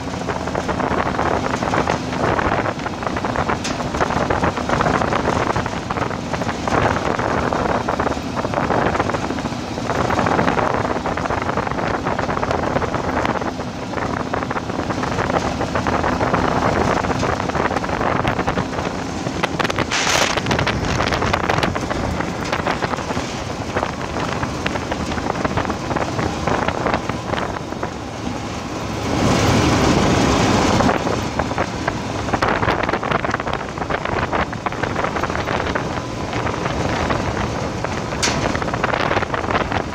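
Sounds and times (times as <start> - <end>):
tyres rumbling on gravel: 0.0 - 39.9
vehicle engine: 0.0 - 39.9
wind buffeting microphone: 0.0 - 39.9.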